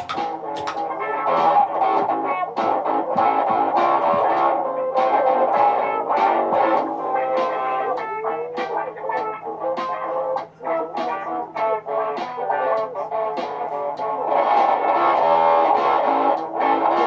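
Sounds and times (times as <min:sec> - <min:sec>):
plucked electric guitar notes: 0:00.0 - 0:17.0.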